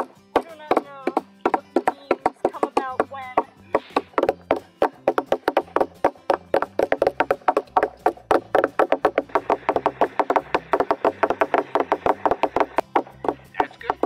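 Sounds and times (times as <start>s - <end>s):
mallets pounding wet grass on wood: 0.0s - 14.0s.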